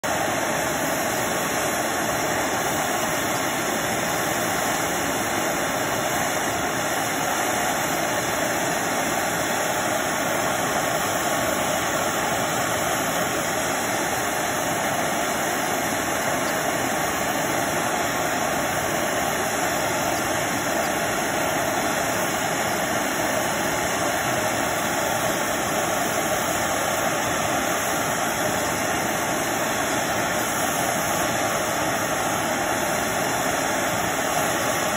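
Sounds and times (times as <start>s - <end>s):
gas torch hissing: 0.0s - 34.9s.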